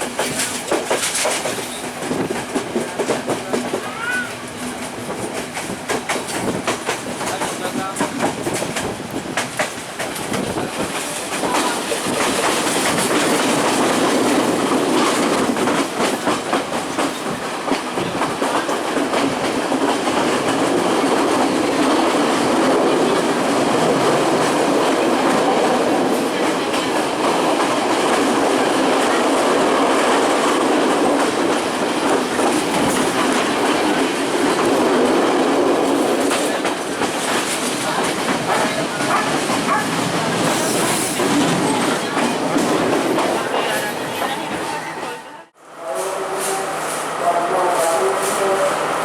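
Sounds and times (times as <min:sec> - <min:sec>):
train wheels clattering on rails: 0:00.0 - 0:44.8.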